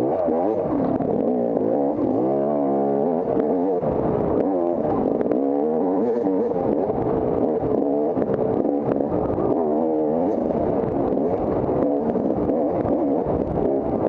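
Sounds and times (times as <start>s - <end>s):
dirt bike engine revving: 0.0s - 14.0s
sharp clicks and clatter: 0.0s - 14.0s.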